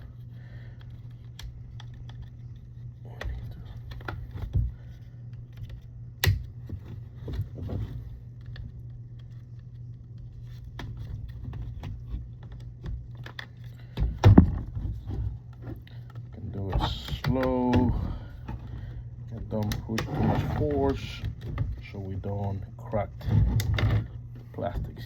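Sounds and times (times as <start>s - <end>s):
steady low hum: 0.0s - 25.0s
plastic latches clicking and scraping: 0.8s - 25.0s.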